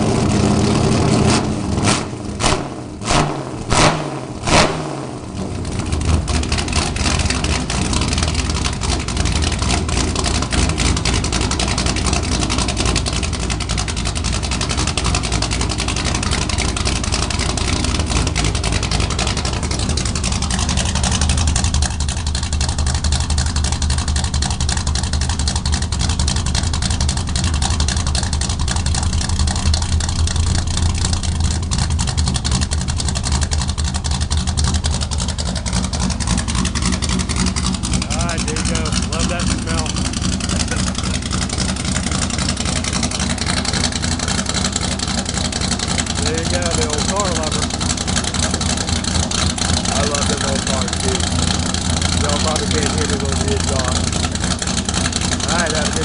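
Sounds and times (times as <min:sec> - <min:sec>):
car engine revving bursts: 0:00.0 - 0:56.0
deep engine idle: 0:00.0 - 0:56.0.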